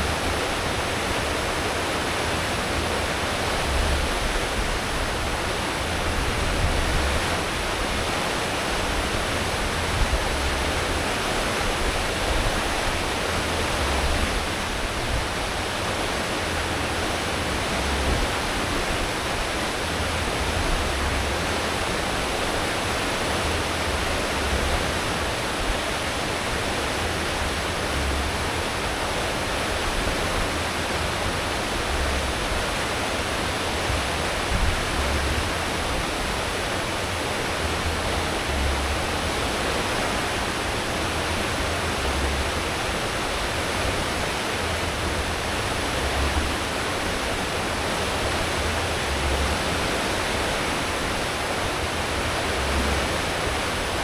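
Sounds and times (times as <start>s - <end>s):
foaming water rushing: 0.0s - 54.0s
low engine rumble: 0.0s - 54.0s.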